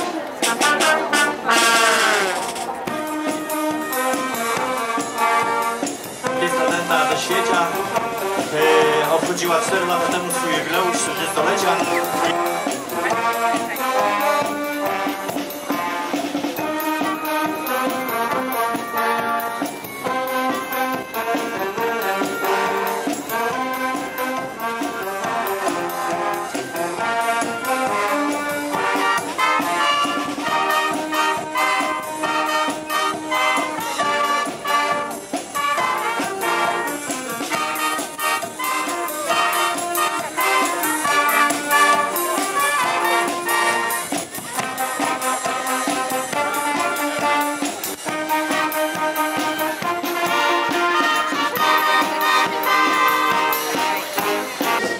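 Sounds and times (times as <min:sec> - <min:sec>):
brass band playing: 0:00.0 - 0:54.9.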